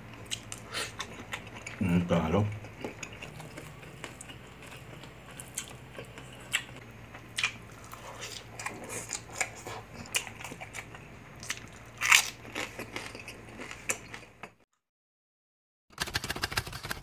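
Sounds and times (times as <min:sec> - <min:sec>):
steady low hum: 0:00.0 - 0:14.5
person chewing crunchy food: 0:00.0 - 0:14.6.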